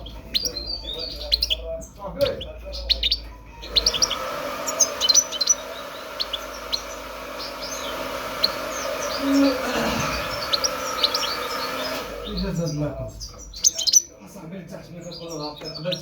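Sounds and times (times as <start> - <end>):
finch chirping and twittering: 0.0 - 16.0.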